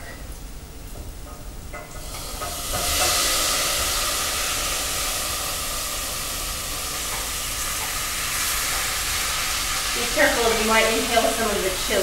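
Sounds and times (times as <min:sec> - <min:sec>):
food sizzling in oil: 0:01.8 - 0:12.0
steam hissing: 0:01.9 - 0:12.0.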